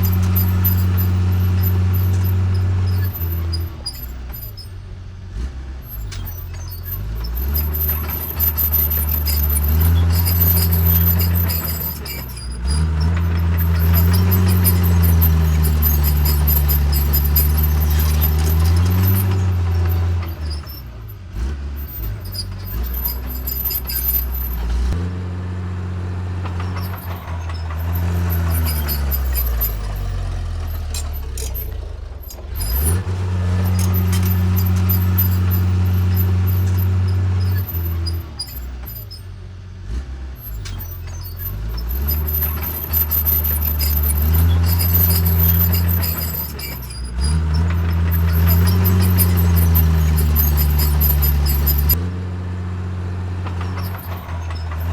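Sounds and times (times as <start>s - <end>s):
bulldozer diesel engine under load: 0.0s - 54.9s.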